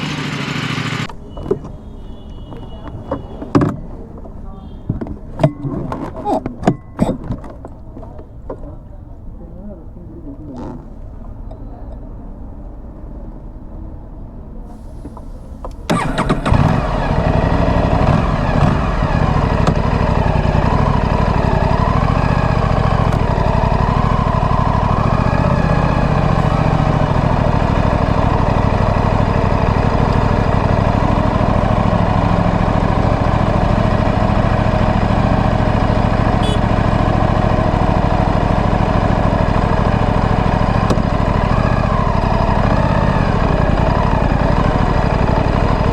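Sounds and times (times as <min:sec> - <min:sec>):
motorcycle engine idling: 0:00.0 - 0:10.0, 0:14.7 - 0:45.9.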